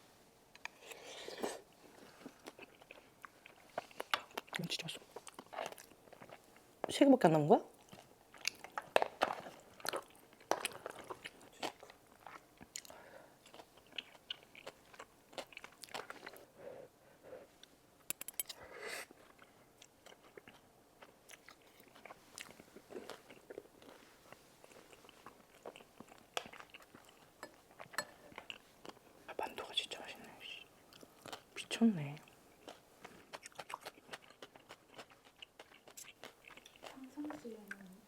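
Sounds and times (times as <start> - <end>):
close chewing: 1.5 - 6.6, 7.7 - 16.5, 18.1 - 29.0, 32.2 - 38.0.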